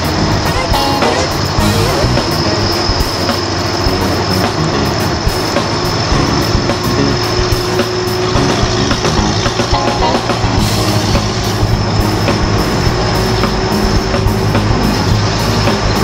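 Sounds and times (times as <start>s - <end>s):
box truck running: 0.0s - 16.0s
tyres on road: 0.0s - 16.0s
vehicle engines: 0.0s - 16.0s.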